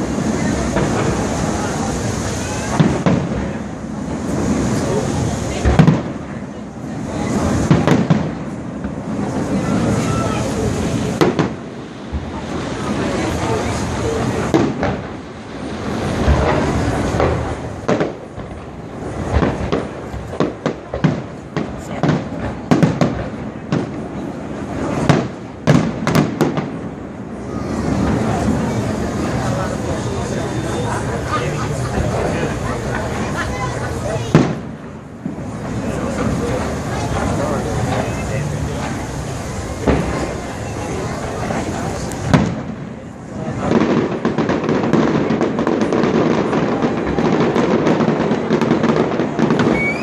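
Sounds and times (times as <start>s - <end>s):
din of fireworks display: 0.0s - 50.0s
fireworks bangs: 0.0s - 50.0s.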